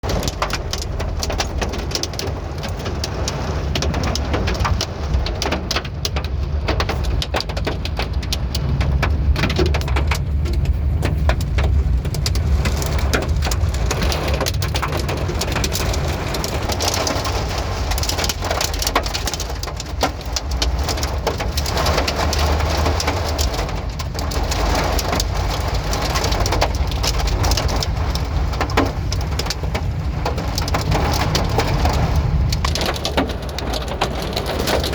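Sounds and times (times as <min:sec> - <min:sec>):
heavy rain falling: 0:00.0 - 0:34.9
steady low rumble: 0:00.0 - 0:34.9.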